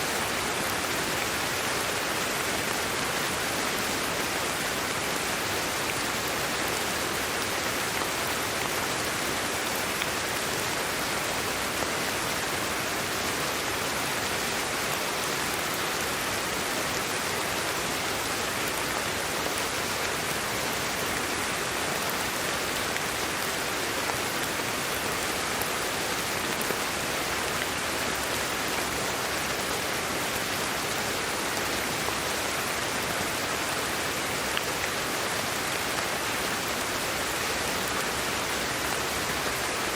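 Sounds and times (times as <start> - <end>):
steady hiss like heavy rain: 0.0 - 39.9.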